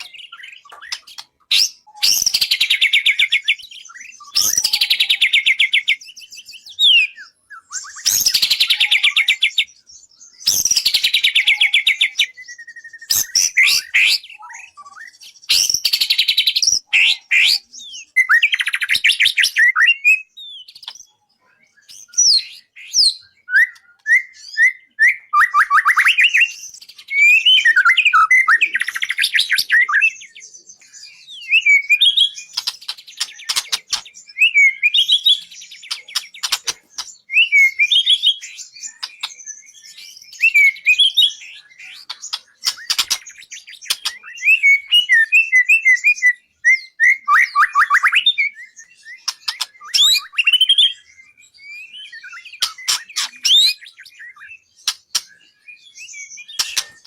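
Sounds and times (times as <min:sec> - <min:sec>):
songbird singing trills and whistles: 0:00.0 - 0:57.0.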